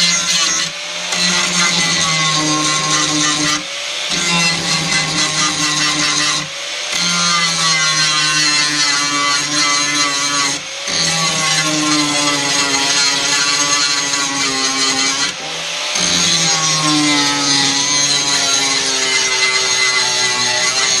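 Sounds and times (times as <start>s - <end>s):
electric grinder grinding metal: 0.0s - 21.0s.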